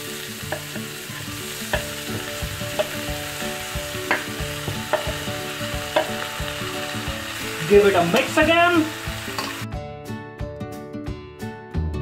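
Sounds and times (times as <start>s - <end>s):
onions sizzling in oil: 0.0s - 9.7s.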